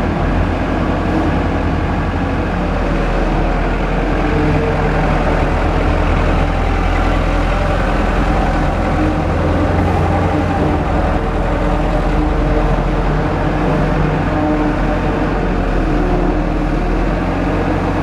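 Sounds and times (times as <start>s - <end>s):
diesel engine low drone: 0.0s - 18.0s.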